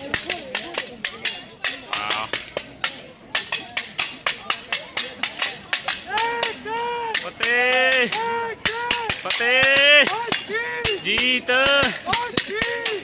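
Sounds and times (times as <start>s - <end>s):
sticks clacking against shields: 0.0s - 13.0s.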